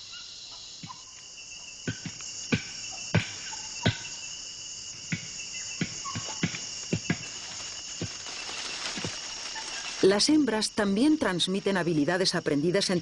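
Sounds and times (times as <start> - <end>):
forest insects chorus: 0.0 - 13.0.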